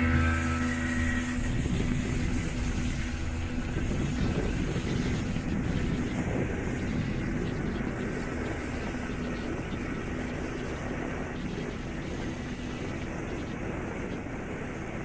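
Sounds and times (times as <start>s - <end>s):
outboard motor running: 0.0s - 15.0s
rushing water of wake: 0.0s - 15.0s
wind buffeting microphone: 0.0s - 15.0s.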